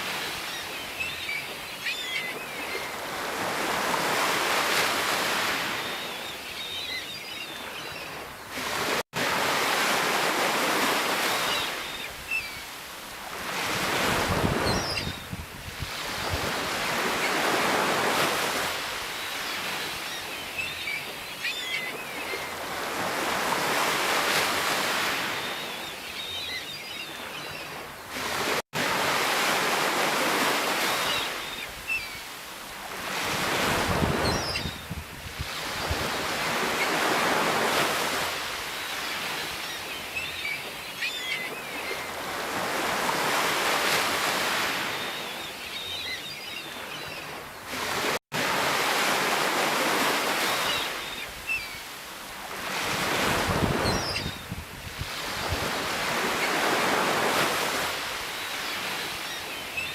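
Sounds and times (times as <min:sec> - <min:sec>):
sea waves breaking: 0:00.0 - 0:06.7, 0:07.5 - 0:15.0, 0:15.6 - 0:26.4, 0:27.2 - 0:59.9.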